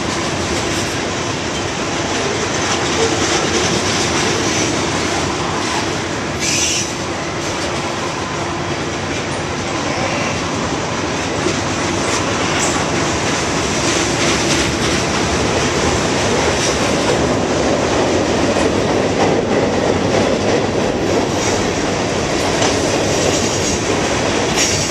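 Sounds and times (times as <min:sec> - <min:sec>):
freight train cars rolling past: 0:00.0 - 0:24.9.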